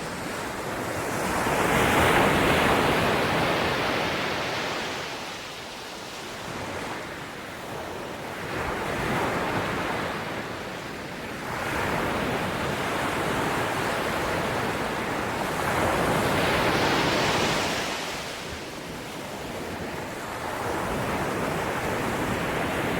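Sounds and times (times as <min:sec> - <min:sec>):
ocean waves breaking on shore: 0:00.0 - 0:22.9.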